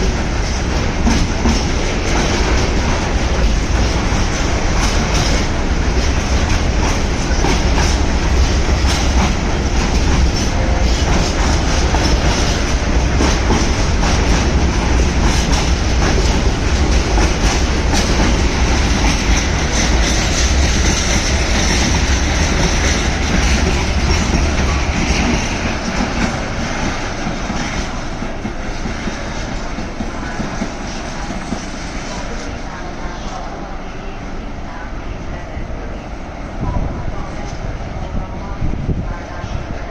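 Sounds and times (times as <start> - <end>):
train wheels clattering over rail joints: 0.0 - 32.0
deep train rumble: 0.0 - 39.9.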